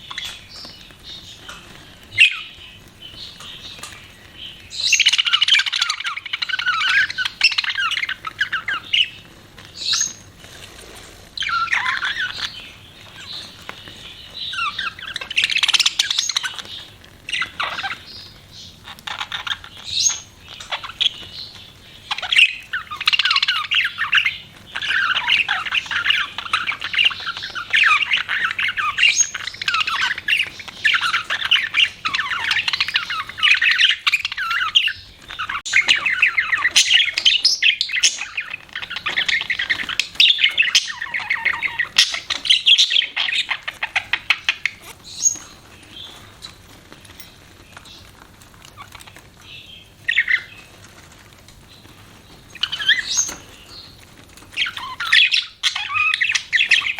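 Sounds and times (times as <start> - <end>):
budgerigars warbling and chattering: 0.0 - 56.9.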